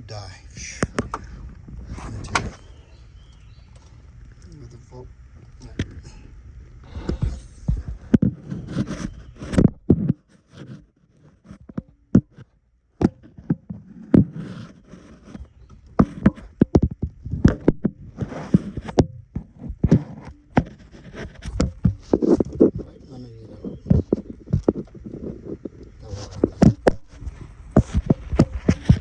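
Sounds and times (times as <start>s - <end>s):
rustling: 0.6s - 12.5s, 13.2s - 29.0s.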